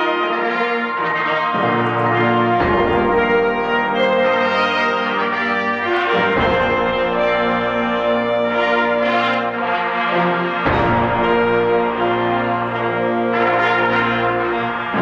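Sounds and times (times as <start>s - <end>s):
concert band playing chords: 0.0s - 15.0s.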